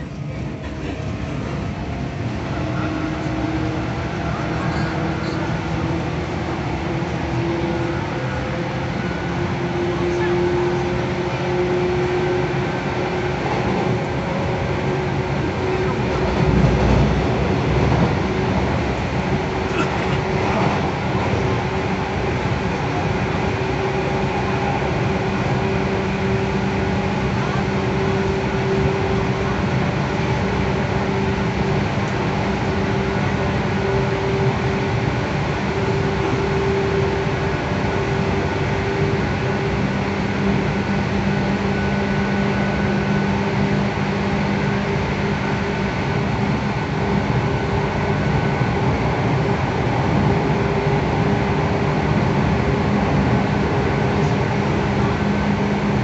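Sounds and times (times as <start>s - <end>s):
low traction motor hum: 0.0s - 56.0s
train wheels on rails: 0.0s - 56.0s.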